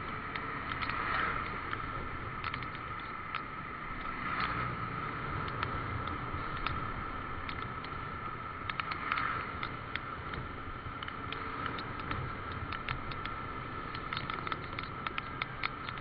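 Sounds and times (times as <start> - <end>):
sharp ticks: 0.0 - 16.0.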